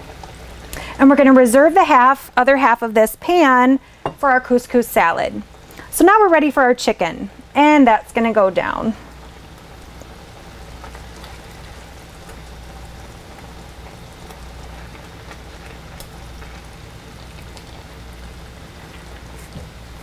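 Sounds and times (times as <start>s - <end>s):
sauce sizzling in pan: 0.0s - 20.0s.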